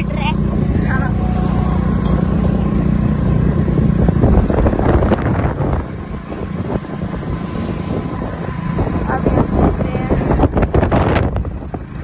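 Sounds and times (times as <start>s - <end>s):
engine and tyres rumbling: 0.0s - 12.0s
wind rushing over microphone: 0.0s - 12.0s.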